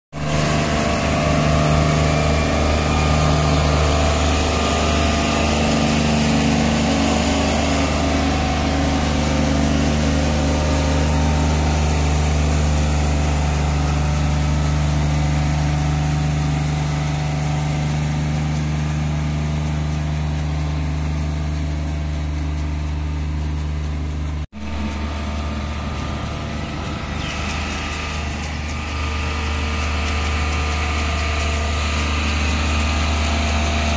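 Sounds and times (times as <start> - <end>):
rotary brush sweeping road: 0.2 - 33.9
tractor diesel engine running: 0.2 - 33.9.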